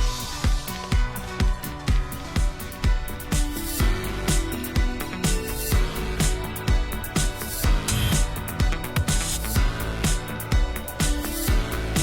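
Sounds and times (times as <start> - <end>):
background music with steady beat: 0.0 - 12.0
kick drum: 0.0 - 12.0.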